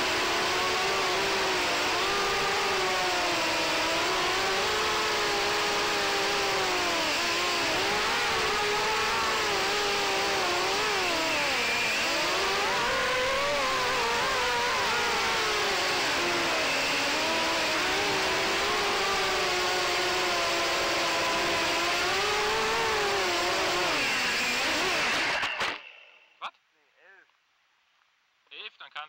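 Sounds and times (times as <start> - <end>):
drone motors whining: 0.0 - 26.4.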